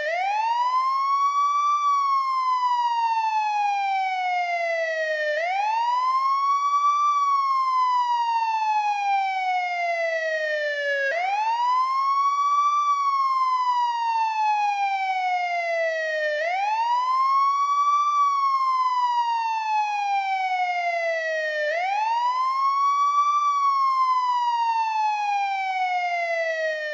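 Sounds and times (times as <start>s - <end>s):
police siren wailing: 0.0s - 26.9s.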